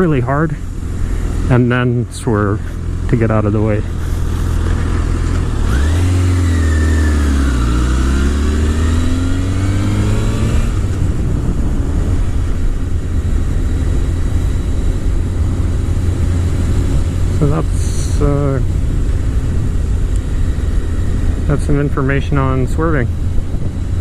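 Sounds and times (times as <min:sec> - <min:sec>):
low rumble: 0:00.0 - 0:24.0
motorcycle engine revving: 0:00.0 - 0:24.0.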